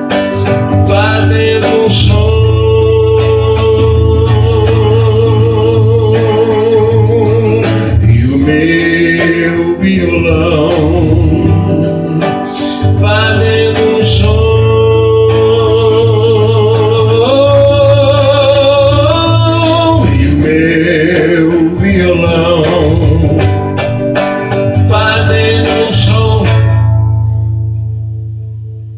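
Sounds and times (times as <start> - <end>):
man singing: 0.0 - 23.9, 24.5 - 27.0
acoustic guitar: 0.0 - 28.9.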